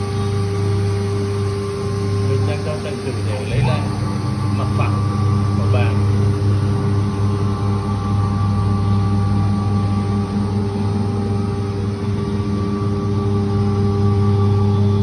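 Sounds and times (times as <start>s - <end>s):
cnc router humming: 0.0s - 15.0s.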